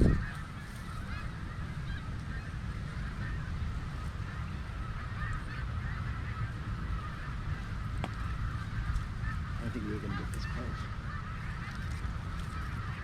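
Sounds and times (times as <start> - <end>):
geese honking: 0.0 - 13.0
wind rumble on microphone: 0.0 - 13.0.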